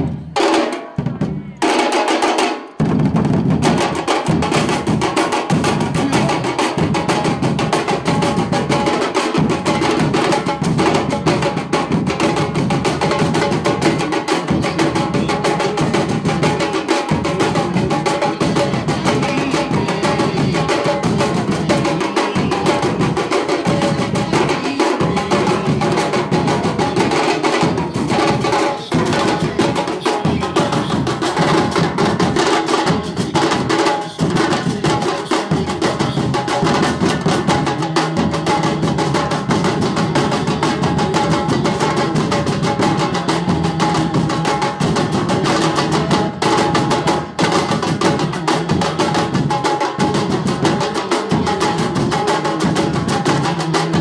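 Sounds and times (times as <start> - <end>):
percussion music with drums: 0.0 - 54.0.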